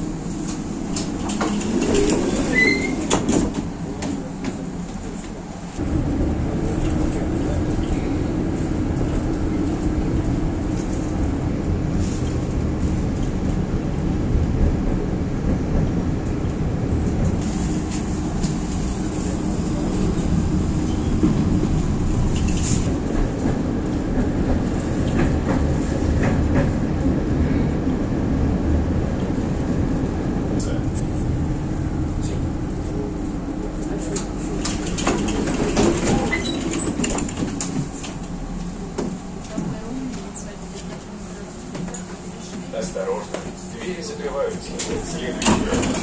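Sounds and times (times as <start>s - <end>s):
tram wheels rumbling on rails: 0.0s - 46.0s.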